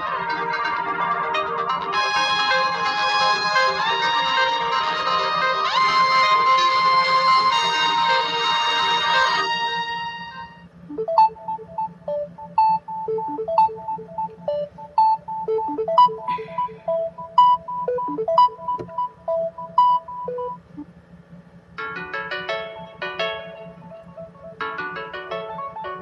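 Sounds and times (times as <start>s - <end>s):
phone ringtone melody: 0.0s - 20.6s, 21.8s - 26.0s
steady low hum: 0.0s - 26.0s.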